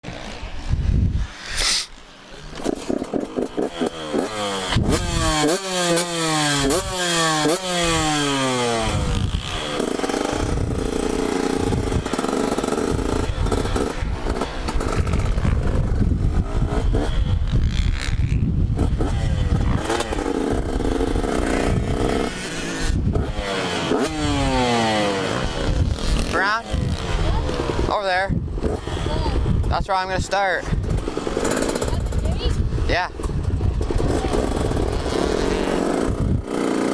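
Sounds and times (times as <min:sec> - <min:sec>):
two-stroke dirt bike engine revving: 0:01.3 - 0:36.9.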